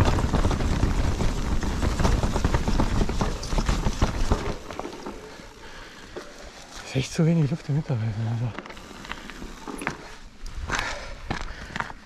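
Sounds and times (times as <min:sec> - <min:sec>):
bike clattering over roots: 0:00.0 - 0:07.8, 0:08.4 - 0:12.0.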